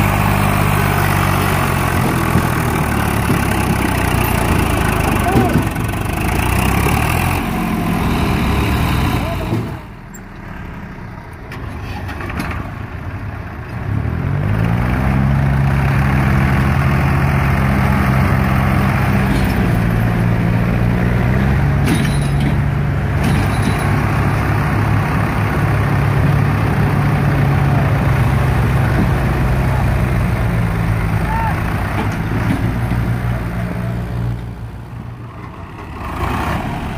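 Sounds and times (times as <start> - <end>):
tractor diesel engines straining: 0.0 - 36.9.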